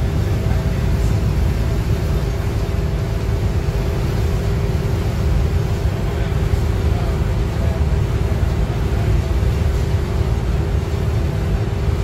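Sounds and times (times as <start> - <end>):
diesel bus engine rumble: 0.0 - 12.0.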